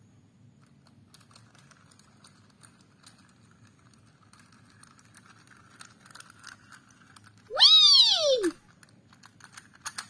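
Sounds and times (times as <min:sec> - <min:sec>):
toy train clicking on track: 0:00.6 - 0:10.0.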